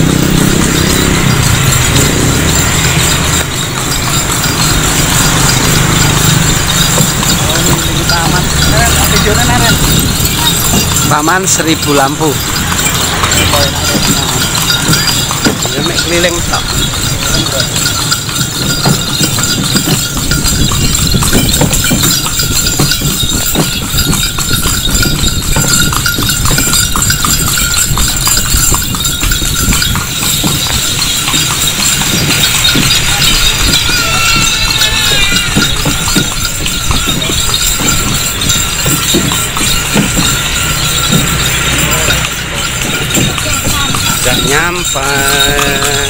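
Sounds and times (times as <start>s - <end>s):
horse hooves clip-clopping on pavement: 0.0s - 46.0s.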